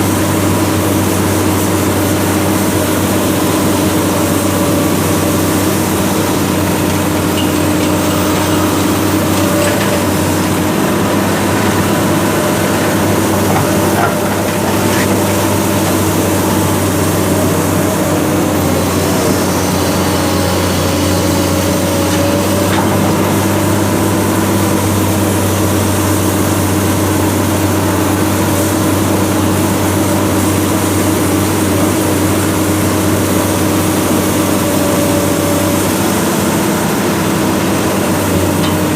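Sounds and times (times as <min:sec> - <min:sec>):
diesel engine low drone: 0:00.0 - 0:38.9.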